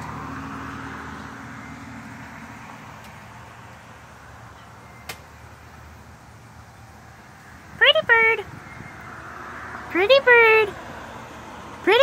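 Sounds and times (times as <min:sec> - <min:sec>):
vehicle engine hum with road noise: 0:00.0 - 0:12.0.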